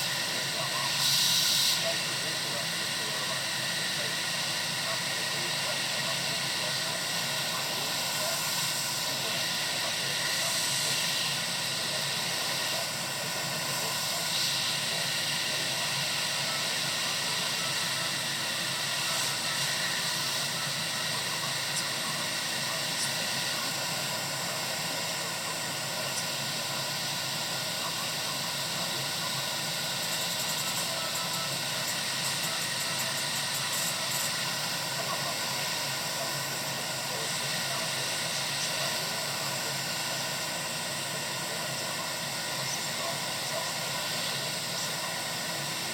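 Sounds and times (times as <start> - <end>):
hot air station airflow hiss: 0.0 - 45.9.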